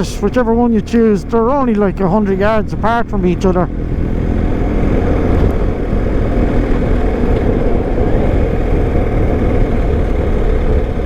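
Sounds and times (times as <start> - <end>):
motorcycle engine: 0.0 - 11.0
wind rushing across microphone: 0.0 - 11.0.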